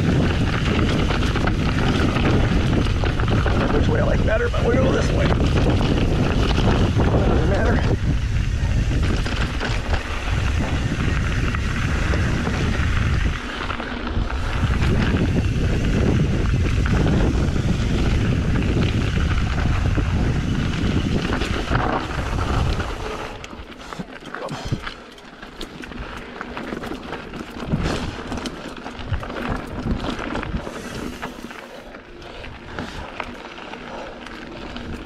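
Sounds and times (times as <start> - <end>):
wind buffeting microphone: 0.0 - 23.7, 25.8 - 35.0
bike rattling: 0.0 - 35.0
tyres crunching over gravel: 0.0 - 35.0.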